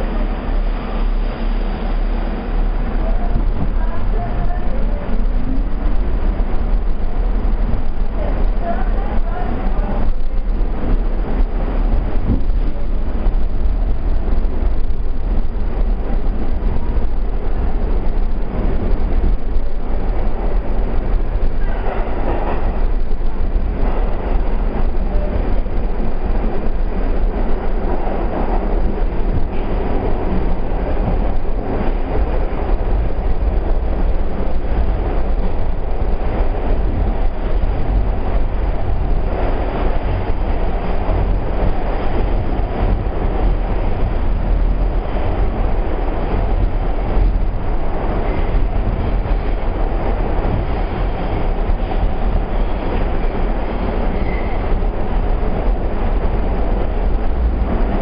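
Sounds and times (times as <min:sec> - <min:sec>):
subway train rumble: 0:00.0 - 0:58.0.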